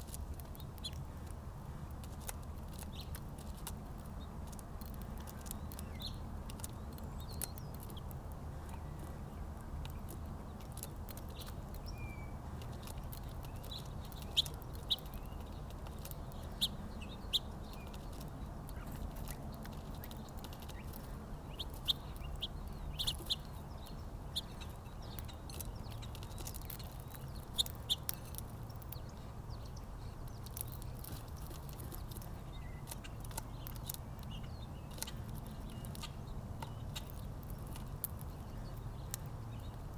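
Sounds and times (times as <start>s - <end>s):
low background hum: 0.0s - 39.9s
small birds chirping: 0.0s - 39.9s.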